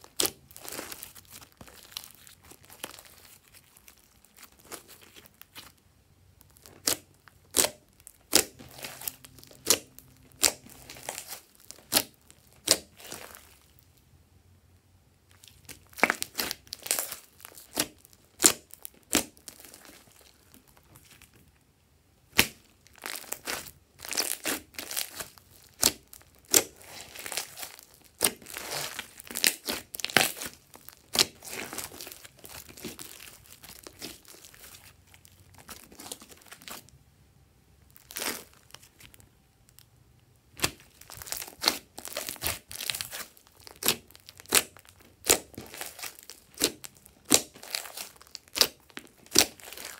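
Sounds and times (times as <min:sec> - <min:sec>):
hands squishing slime: 0:00.0 - 0:05.8, 0:06.4 - 0:13.8, 0:15.3 - 0:21.3, 0:22.3 - 0:36.9, 0:37.9 - 0:39.2, 0:40.5 - 0:49.9.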